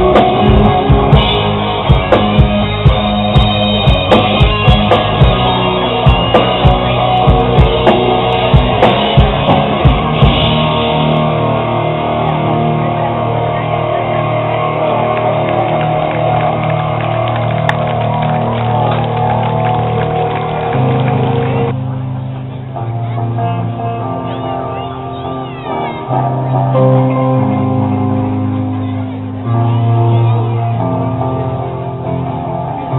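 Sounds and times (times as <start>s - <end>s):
rock band playing live: 0.0s - 32.9s.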